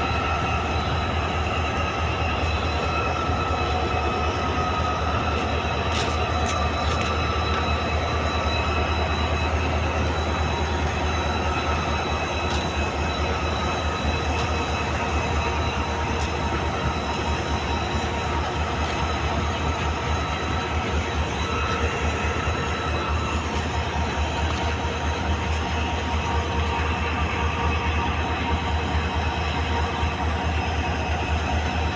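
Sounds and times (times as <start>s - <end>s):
high-pitched whine: 0.0s - 31.9s
locomotive engine idling: 0.0s - 31.9s.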